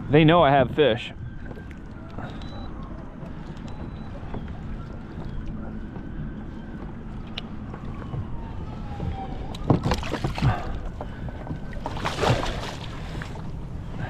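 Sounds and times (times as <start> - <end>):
water splashing: 0.4 - 14.0.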